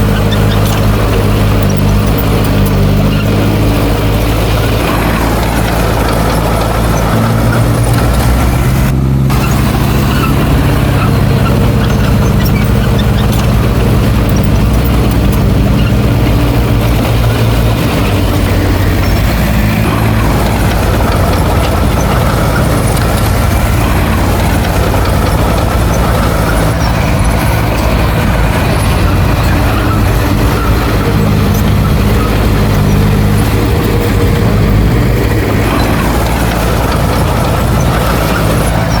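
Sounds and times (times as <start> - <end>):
heavy diesel engine droning: 0.0 - 39.0.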